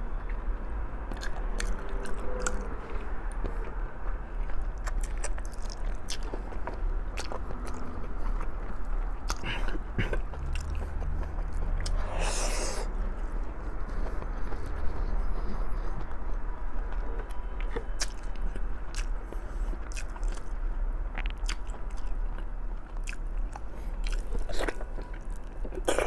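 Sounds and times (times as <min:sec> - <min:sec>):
person chewing with wet smacks: 0:01.1 - 0:26.0.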